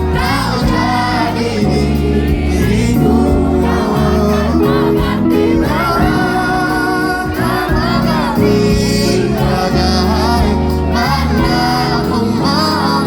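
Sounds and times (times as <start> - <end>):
live band playing pop ballad: 0.0 - 13.0
person singing: 0.0 - 13.0.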